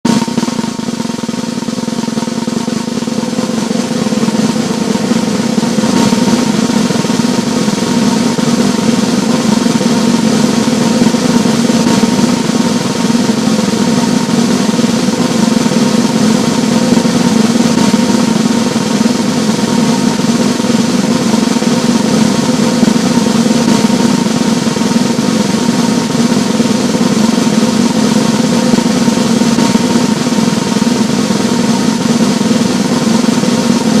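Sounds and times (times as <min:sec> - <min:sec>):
drum roll: 0:00.1 - 0:34.0.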